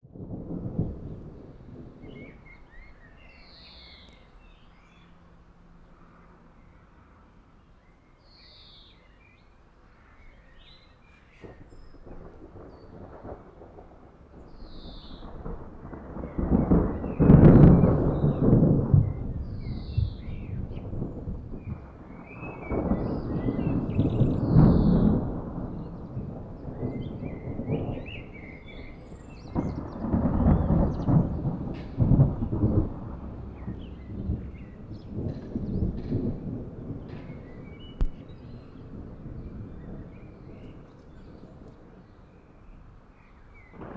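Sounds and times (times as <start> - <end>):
thunder rumbling and crackling: 0.0 - 5.0, 10.6 - 43.9.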